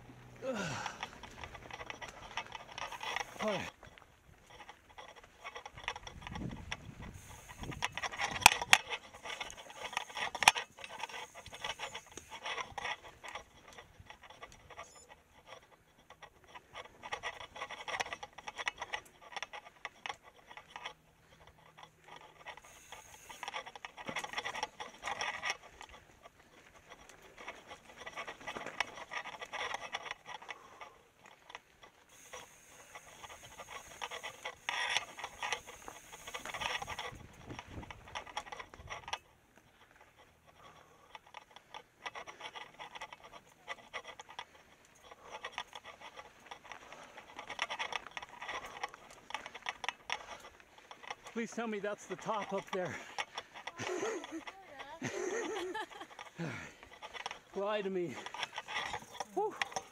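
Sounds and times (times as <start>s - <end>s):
bike clicking and rattling: 0.0s - 59.9s.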